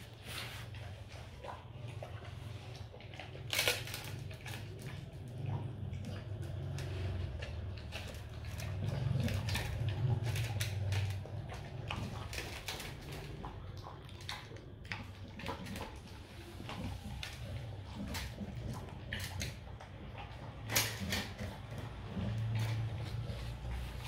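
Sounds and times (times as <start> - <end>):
dog crunching kibble in metal bowl: 1.3 - 24.0.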